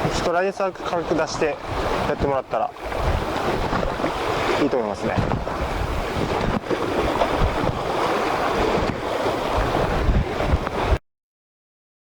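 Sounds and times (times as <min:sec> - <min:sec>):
surf washing on shore: 0:00.0 - 0:11.0
wind buffeting microphone: 0:00.0 - 0:11.0.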